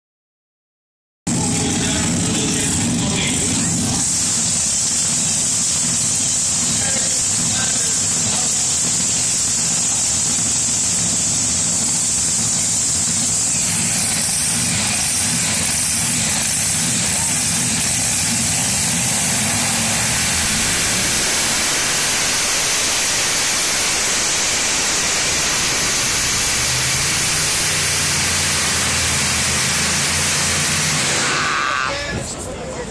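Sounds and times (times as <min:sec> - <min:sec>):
high whine: 0:01.3 - 0:32.6
tractor engine running loud: 0:01.3 - 0:32.9.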